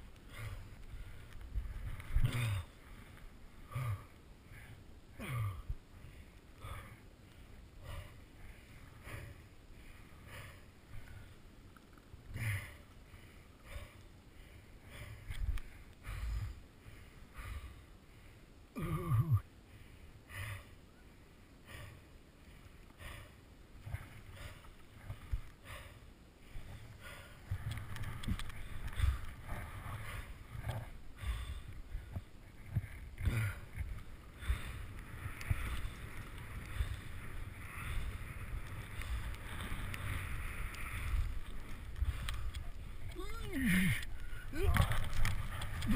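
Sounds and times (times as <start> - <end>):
hard rhythmic breathing: 0.0 - 45.9.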